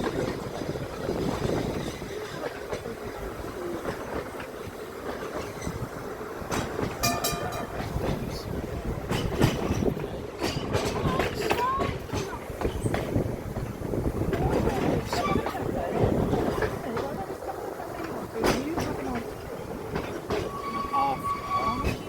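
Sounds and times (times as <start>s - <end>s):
tram wheels rumbling and clattering: 0.0s - 22.0s.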